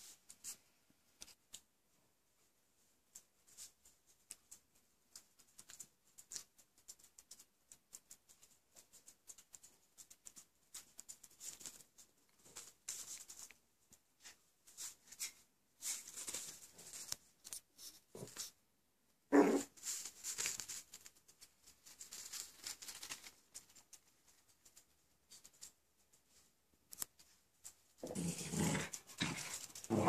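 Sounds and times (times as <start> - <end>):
paws and claws on tile floor: 0.0 - 18.6, 19.3 - 30.0.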